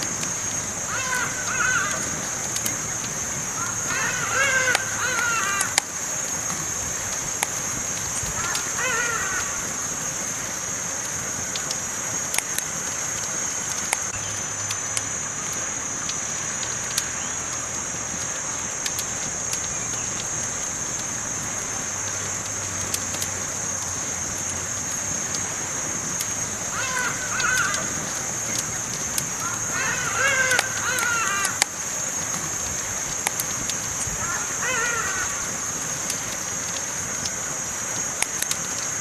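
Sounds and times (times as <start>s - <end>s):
steady high hiss: 0.0s - 39.0s
wood fire crackling and popping: 0.0s - 39.0s.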